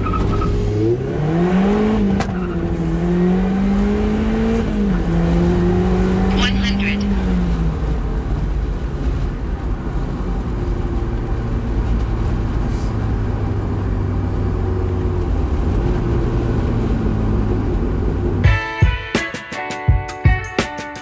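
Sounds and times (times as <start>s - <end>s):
car engine cruising: 0.0s - 18.5s.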